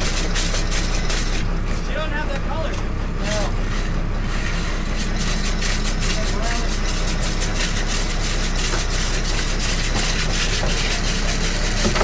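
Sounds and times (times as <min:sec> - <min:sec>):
boat engine droning: 0:00.0 - 0:12.0
wind: 0:00.0 - 0:12.0.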